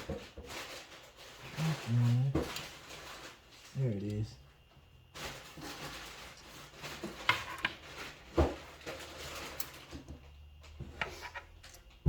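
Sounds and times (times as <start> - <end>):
rustling: 0.0 - 4.4, 5.1 - 12.0.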